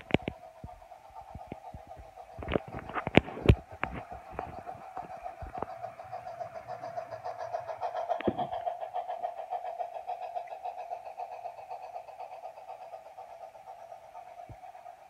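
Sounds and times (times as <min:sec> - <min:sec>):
model train motor hum: 0:00.0 - 0:15.0
wheels clicking on track: 0:00.0 - 0:15.0.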